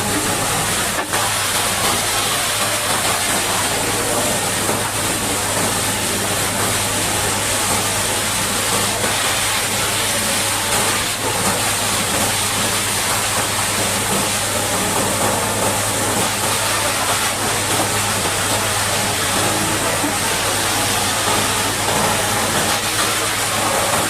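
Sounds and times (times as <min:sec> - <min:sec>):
high-pressure water jet spraying: 0:00.0 - 0:24.0.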